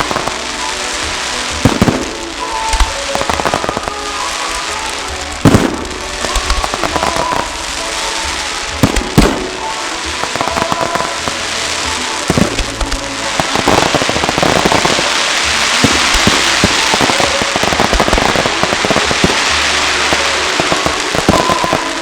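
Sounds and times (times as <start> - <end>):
firework crackling: 0.0 - 22.0
firework shells bursting: 0.0 - 22.0.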